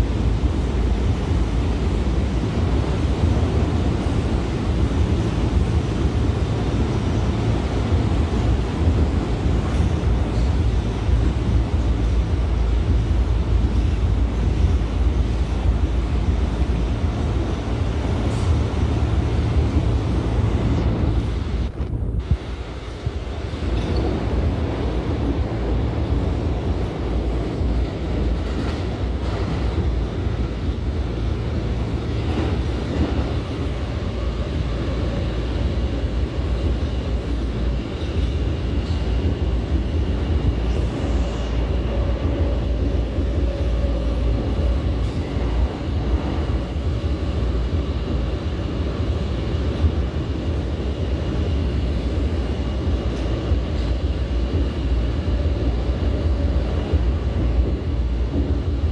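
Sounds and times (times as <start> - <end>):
subway wheels rumbling on rail: 0.0 - 58.9.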